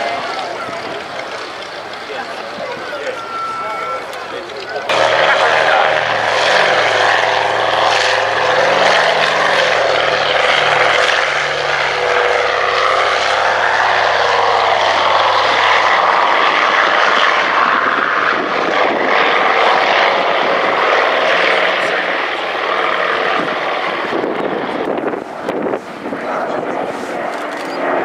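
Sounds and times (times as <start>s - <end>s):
aircraft radial engines droning: 0.0s - 28.0s.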